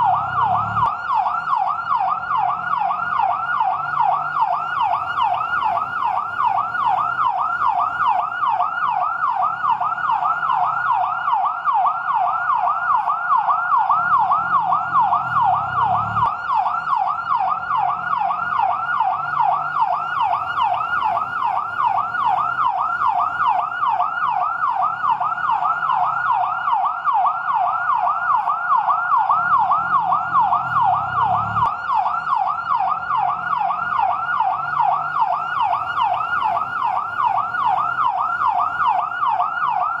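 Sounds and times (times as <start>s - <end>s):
fire truck siren yelping: 0.0s - 40.0s.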